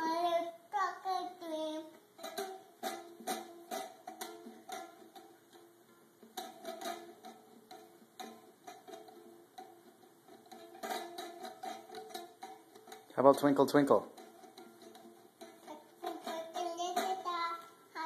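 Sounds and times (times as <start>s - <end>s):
toy guitar strummed: 0.0s - 18.0s.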